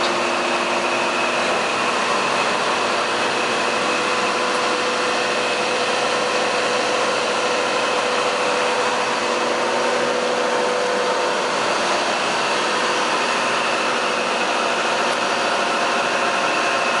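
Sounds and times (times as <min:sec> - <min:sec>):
machinery whine: 0:00.0 - 0:17.0.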